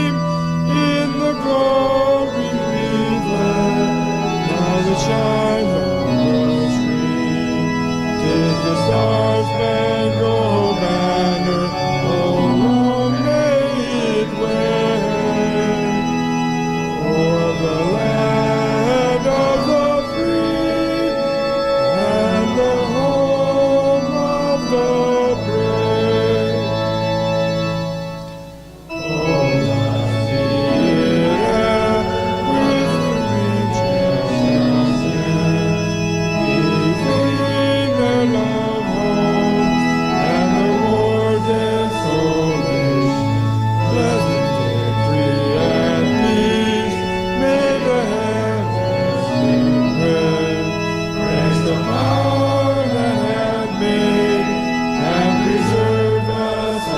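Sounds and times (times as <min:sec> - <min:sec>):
organ chords: 0:00.0 - 0:56.9.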